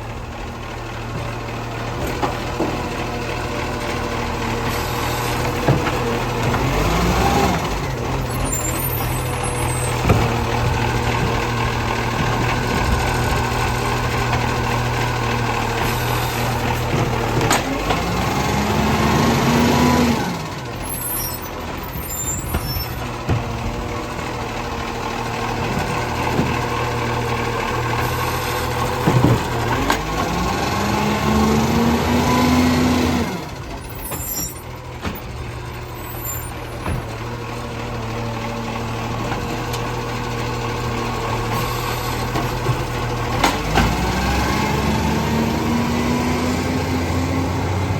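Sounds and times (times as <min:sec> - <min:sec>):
diesel engine revving: 0:00.0 - 0:47.9.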